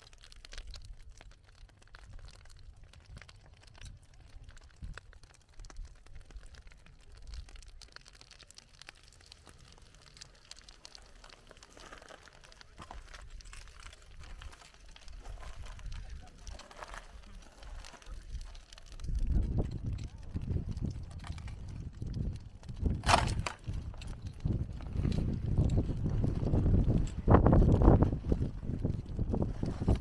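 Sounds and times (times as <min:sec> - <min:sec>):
lava crust cracking: 0:00.0 - 0:30.0.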